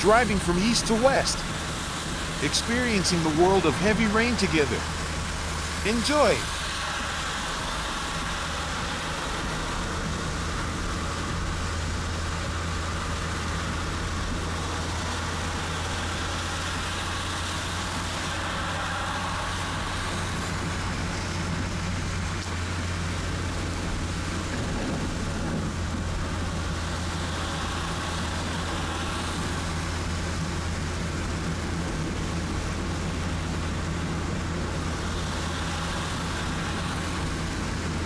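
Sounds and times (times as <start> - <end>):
car engine hum: 0.0 - 38.0
rain and road noise: 0.0 - 38.0.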